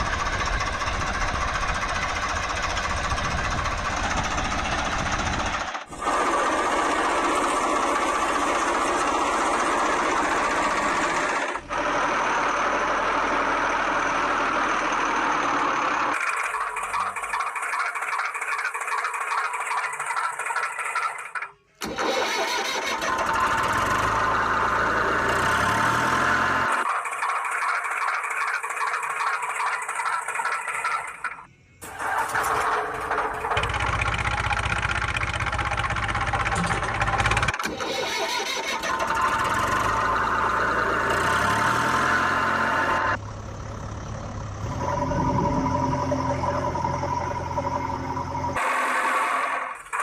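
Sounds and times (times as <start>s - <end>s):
engine starting and running: 0.0s - 50.0s.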